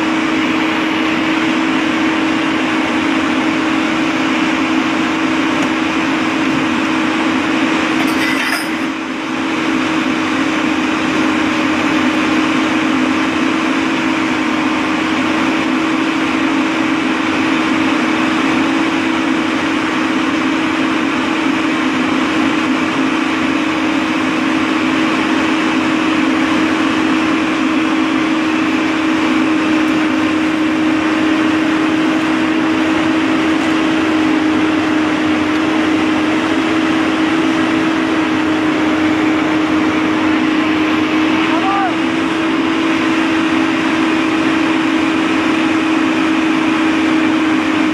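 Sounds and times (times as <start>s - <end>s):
engine drone: 0.0s - 47.9s.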